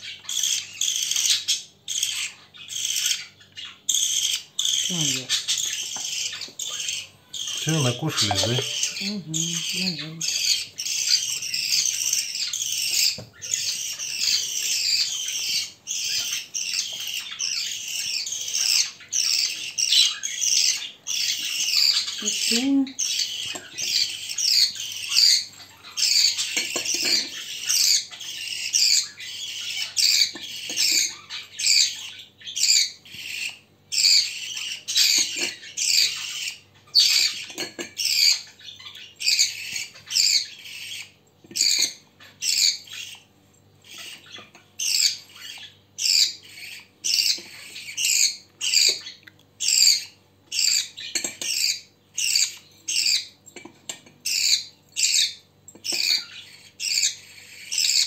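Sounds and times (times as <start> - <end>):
budgerigar chicks begging calls: 0.0 - 53.4, 54.2 - 58.0.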